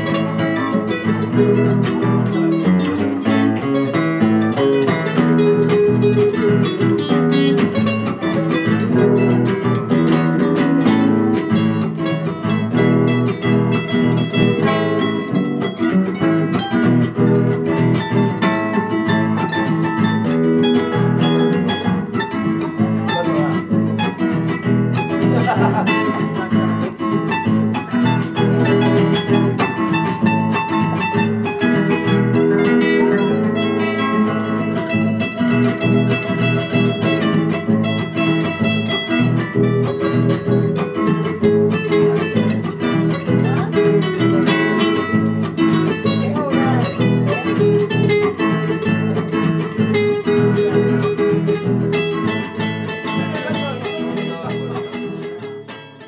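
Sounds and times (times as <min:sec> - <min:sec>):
plucked string music: 0:00.0 - 0:56.0.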